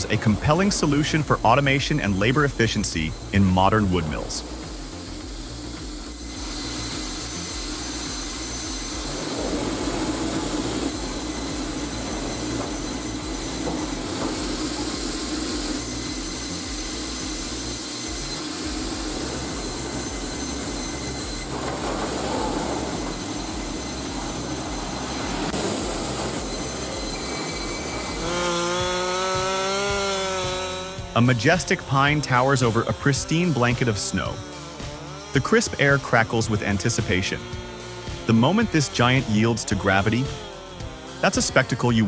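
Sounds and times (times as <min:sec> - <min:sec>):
band saw machinery running: 0:00.0 - 0:42.0
high thin saw whine: 0:00.0 - 0:42.0.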